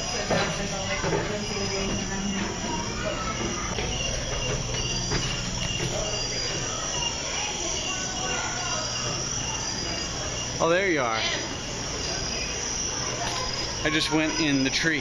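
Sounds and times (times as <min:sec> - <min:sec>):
insects chirping: 0:00.0 - 0:15.0
steady low hum: 0:00.0 - 0:15.0.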